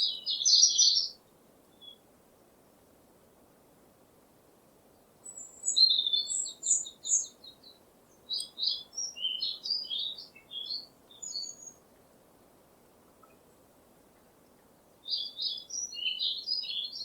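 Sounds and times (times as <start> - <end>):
songbird singing: 0.0 - 2.1, 4.9 - 17.0.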